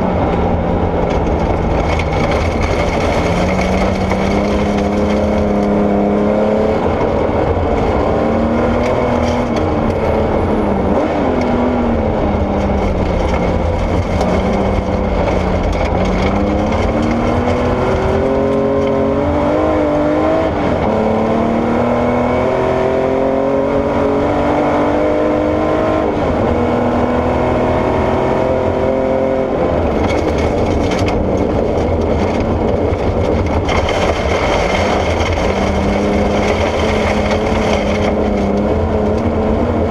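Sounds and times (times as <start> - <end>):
gravel and road noise rumble: 0.0 - 39.9
rally car engine revving: 0.0 - 39.9.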